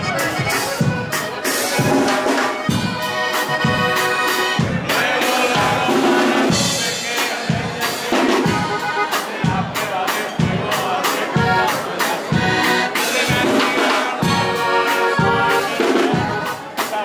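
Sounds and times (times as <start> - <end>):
button accordion: 0.0 - 17.0
drums and bass: 0.0 - 17.0.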